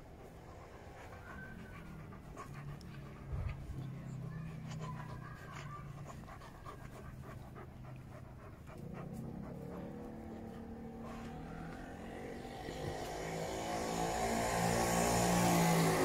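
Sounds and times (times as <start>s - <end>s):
puppy panting: 0.0s - 14.2s.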